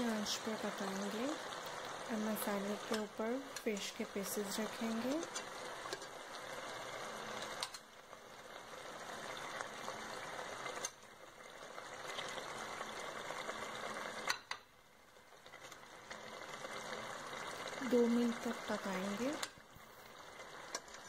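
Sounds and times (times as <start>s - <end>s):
sauce sizzling in oil: 0.0s - 21.0s.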